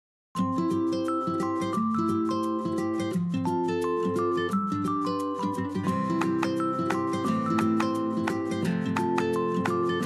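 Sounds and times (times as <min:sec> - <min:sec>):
bright upbeat music: 0:00.4 - 0:10.0.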